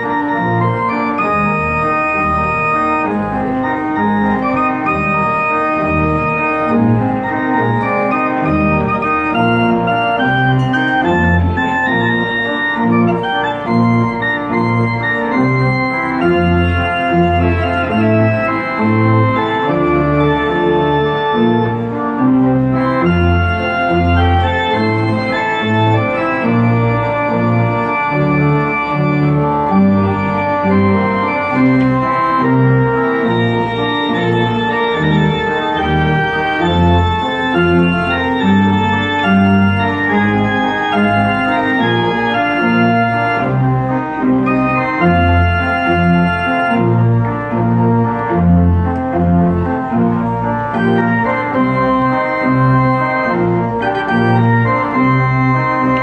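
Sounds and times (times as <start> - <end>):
pipe organ playing festive tune: 0.0 - 56.0.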